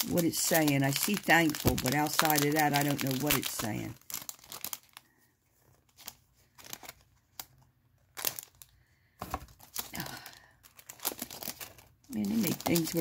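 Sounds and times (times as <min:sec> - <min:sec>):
cellophane packet crinkling: 0:00.0 - 0:13.0.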